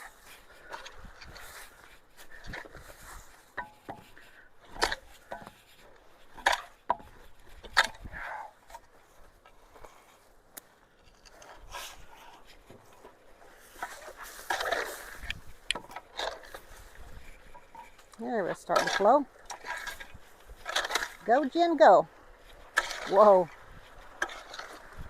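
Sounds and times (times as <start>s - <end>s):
rustling and scraping: 0.0s - 25.0s.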